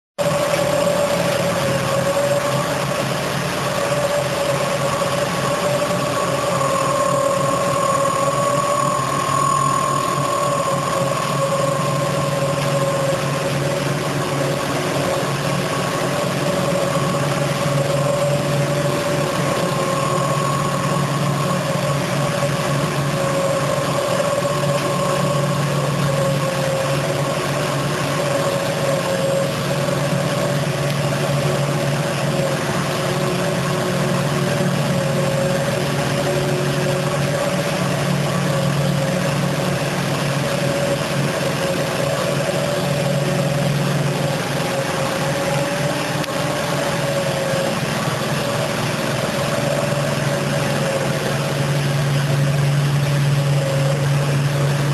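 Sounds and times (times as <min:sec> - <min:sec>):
carpet washing machine humming: 0:00.2 - 0:54.9.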